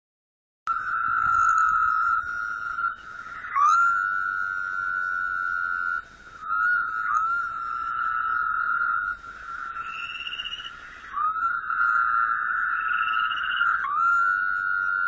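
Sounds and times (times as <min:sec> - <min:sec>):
animal calling with high trills: 0:00.7 - 0:15.0.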